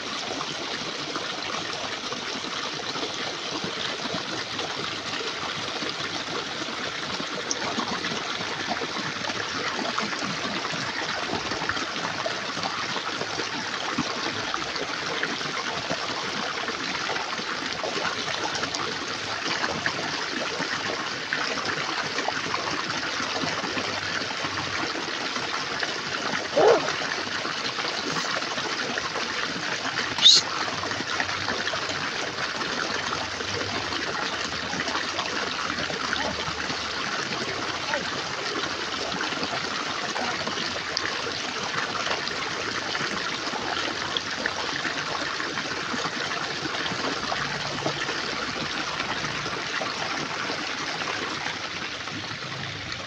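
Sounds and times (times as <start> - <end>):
running trickling water: 0.0 - 53.0.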